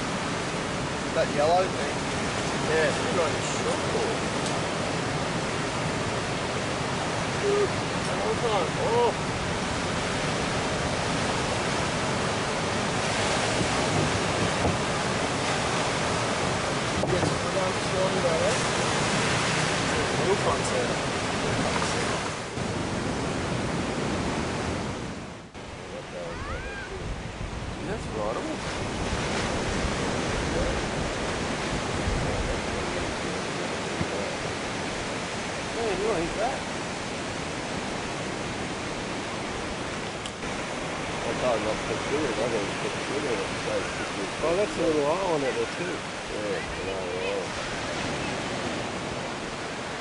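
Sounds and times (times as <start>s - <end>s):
ocean waves breaking: 0.0s - 50.0s
wind rumbling on microphone: 0.0s - 50.0s.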